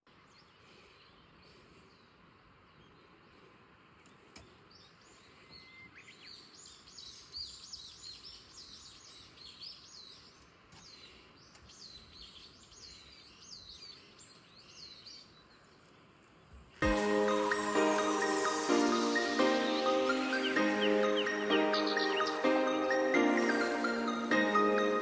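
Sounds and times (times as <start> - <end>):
faint outdoor hiss: 0.1 - 25.0
songbirds chirping: 0.1 - 25.0.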